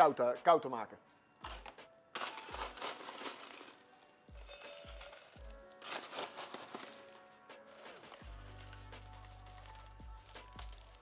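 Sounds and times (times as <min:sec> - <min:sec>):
background music: 0:00.0 - 0:11.0
crushed ice clinking into glass: 0:02.2 - 0:11.0.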